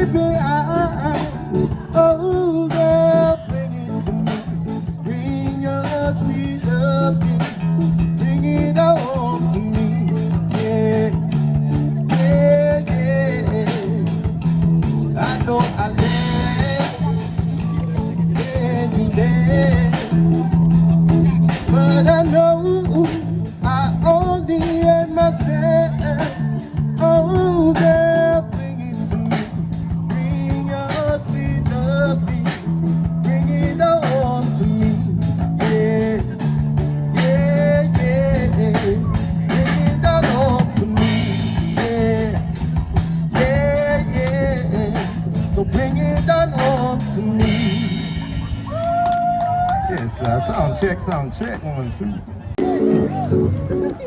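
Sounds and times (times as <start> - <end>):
song with singing over guitar: 0.0 - 48.7
steady bass line: 0.0 - 49.9, 52.5 - 54.0.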